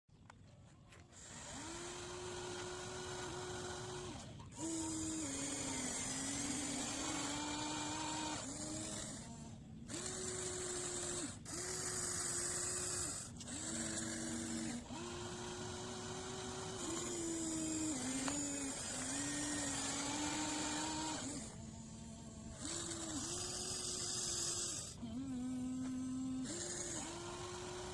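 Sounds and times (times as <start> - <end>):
small electric motors whining: 0.3 - 27.9.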